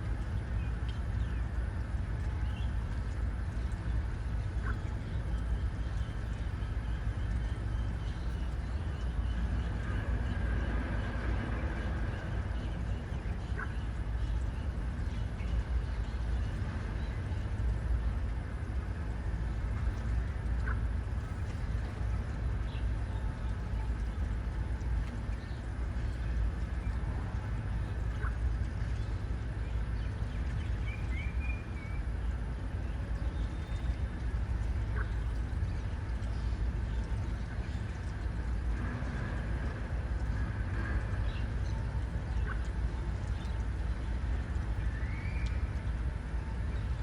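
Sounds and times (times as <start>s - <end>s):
low outdoor rumble: 0.0s - 47.0s
faint bird chirp: 0.4s - 17.8s, 25.0s - 38.5s, 40.2s - 47.0s.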